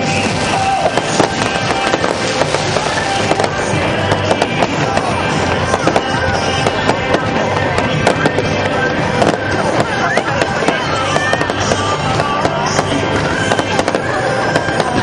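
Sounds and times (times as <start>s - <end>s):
fireworks bursting with bangs and crackles: 0.0s - 15.0s.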